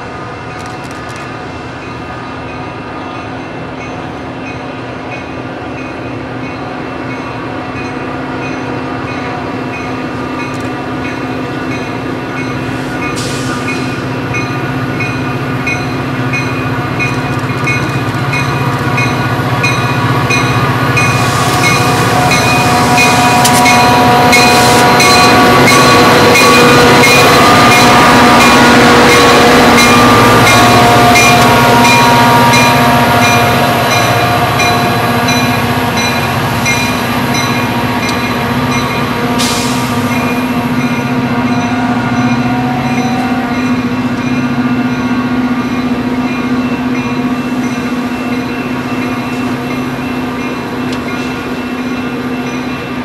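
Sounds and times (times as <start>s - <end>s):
diesel locomotive engine: 0.0s - 53.0s
train coaches rumbling: 0.0s - 53.0s.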